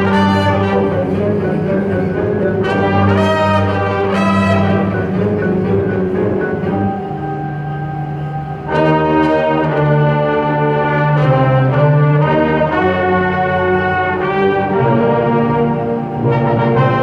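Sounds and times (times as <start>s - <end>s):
wind ensemble playing held chords: 0.0s - 17.0s.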